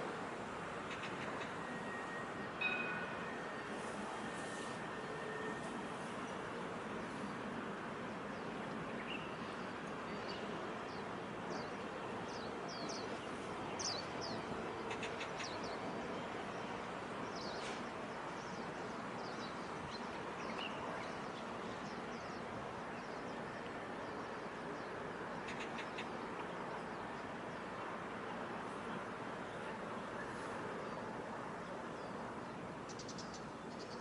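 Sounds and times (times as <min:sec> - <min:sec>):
outdoor ambience: 0:00.0 - 0:34.0.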